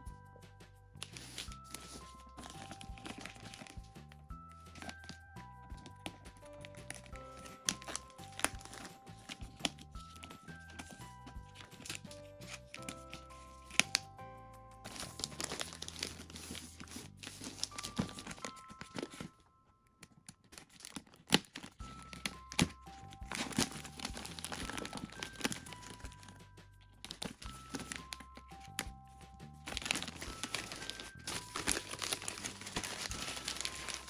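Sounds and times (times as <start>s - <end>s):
soft background music: 0.0s - 34.0s
plastic wrapping crinkling and tearing: 1.0s - 3.9s, 4.7s - 5.2s, 5.8s - 14.2s, 14.8s - 26.4s, 27.0s - 28.9s, 29.6s - 34.0s.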